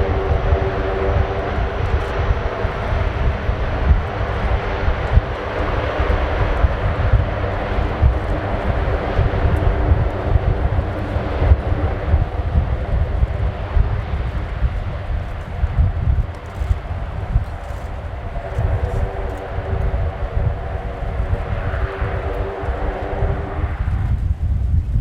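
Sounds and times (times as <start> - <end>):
propeller hum: 0.0 - 24.4
gusty low rumble: 0.0 - 25.0
turboprop engines droning: 0.0 - 25.0.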